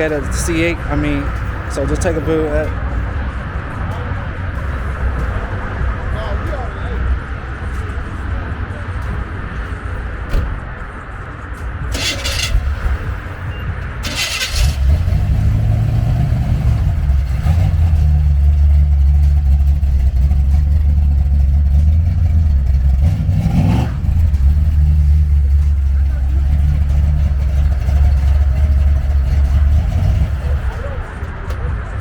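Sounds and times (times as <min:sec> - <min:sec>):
car engine rumbling and revving: 0:00.0 - 0:32.0.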